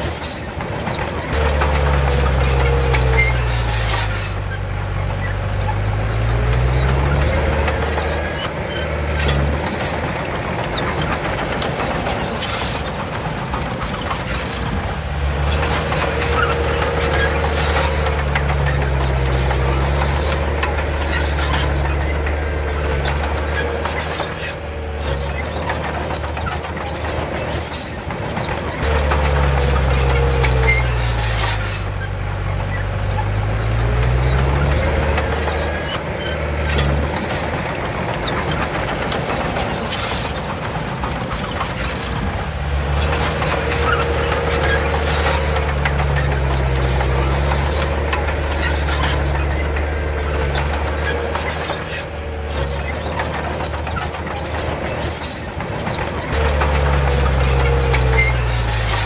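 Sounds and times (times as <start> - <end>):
thin squeal: 0.0 - 10.0, 10.8 - 59.0
bulldozer diesel engine under load: 0.0 - 59.0.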